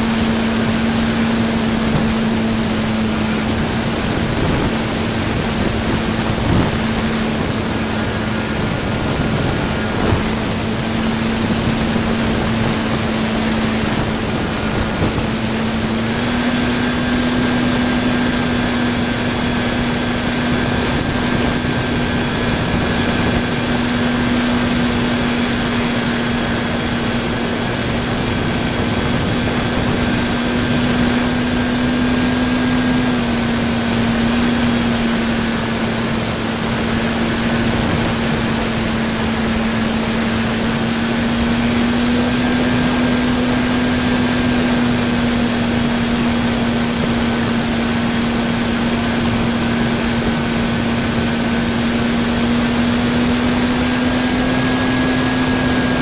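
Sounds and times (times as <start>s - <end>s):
electric motor and propeller: 0.0s - 56.0s
wind rushing: 0.0s - 56.0s.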